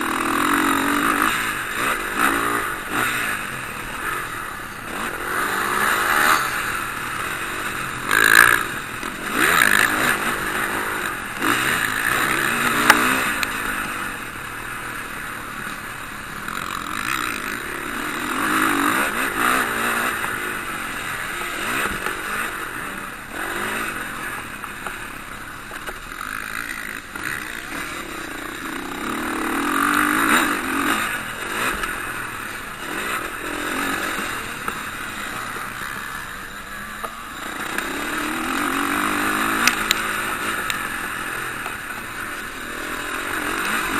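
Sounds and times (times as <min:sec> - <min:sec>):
motocross bikes revving: 0:00.0 - 0:43.9.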